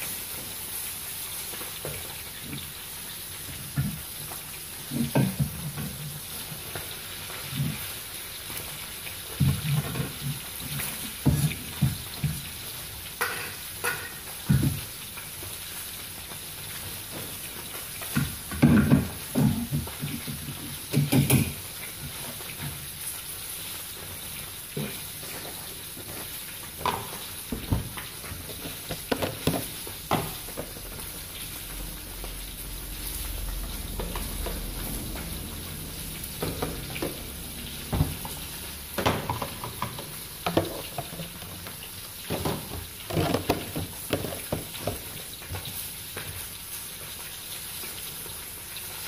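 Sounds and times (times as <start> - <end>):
fish deep-frying in hot oil: 0.0 - 49.0.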